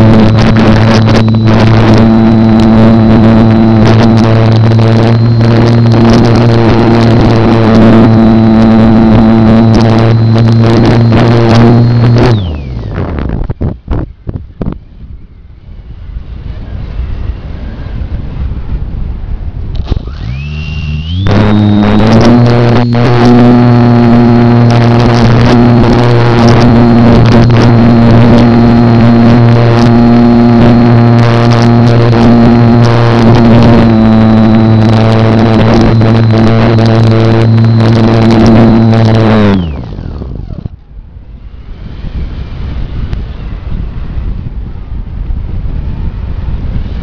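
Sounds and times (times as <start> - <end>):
electric motor and propeller whine: 0.0 - 47.0
wind rush on microphone: 0.0 - 47.0.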